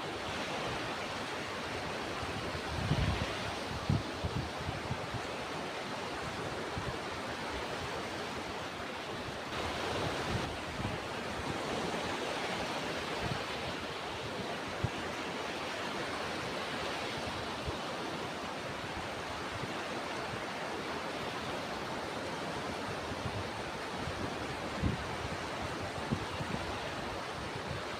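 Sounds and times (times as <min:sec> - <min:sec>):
waves breaking: 0:00.1 - 0:27.9.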